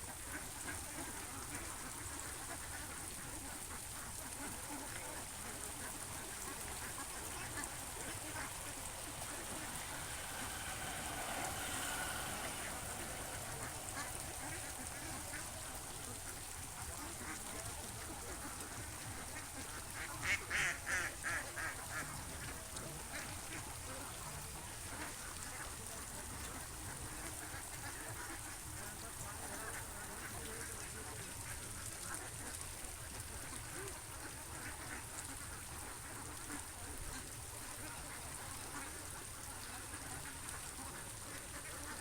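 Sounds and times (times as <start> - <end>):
ducks quacking: 0.0 - 42.0
steady background hiss: 0.0 - 42.0.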